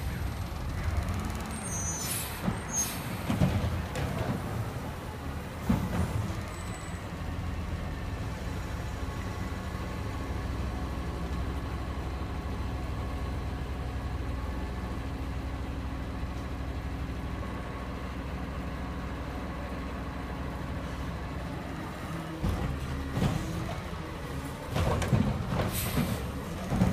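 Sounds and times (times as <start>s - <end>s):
garbage truck engine rumbling: 0.0s - 26.9s.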